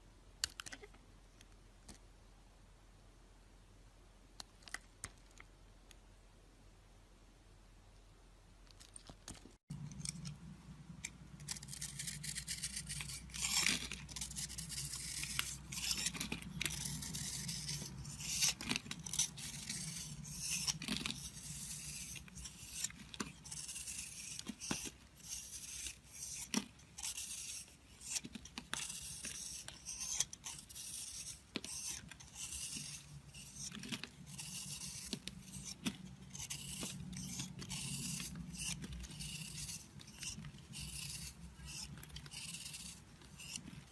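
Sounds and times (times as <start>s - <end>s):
knife scraping soap: 8.8s - 43.9s.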